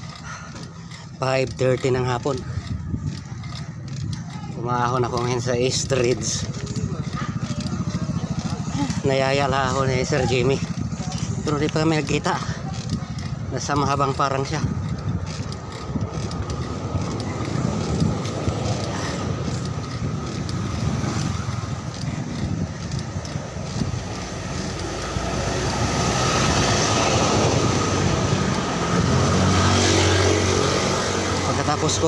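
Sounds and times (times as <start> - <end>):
road noise: 0.0 - 32.0
vehicle engine passing: 0.0 - 32.0
wind buffeting microphone: 0.0 - 32.0.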